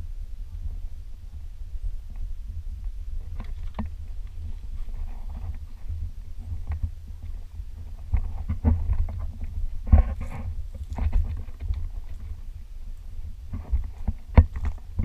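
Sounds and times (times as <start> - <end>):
microphone handling noise: 0.0 - 15.0
wind rumble: 0.0 - 15.0
footsteps on rocky ground: 2.2 - 15.0.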